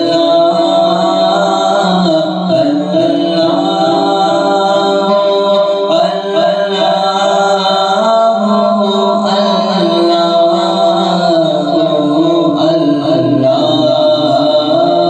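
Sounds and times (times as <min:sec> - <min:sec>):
layered voices chanting: 0:00.0 - 0:15.0.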